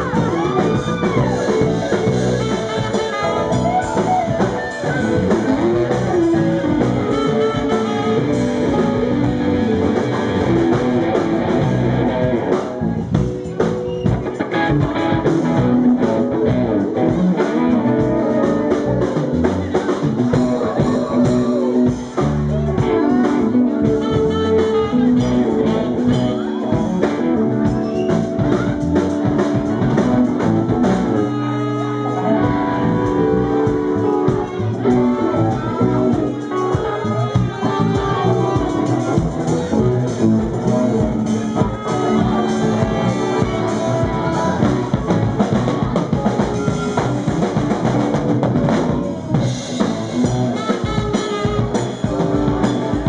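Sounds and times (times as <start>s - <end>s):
bass guitar: 0.0s - 53.0s
drum kit: 0.0s - 53.0s
electric guitar lead: 0.0s - 53.0s
tenor saxophone: 0.0s - 53.0s.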